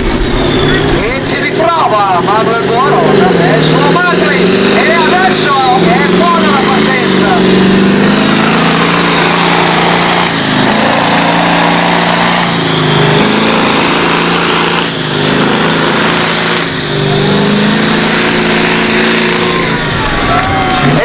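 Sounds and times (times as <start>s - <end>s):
tractor engine at full power: 0.0s - 21.0s.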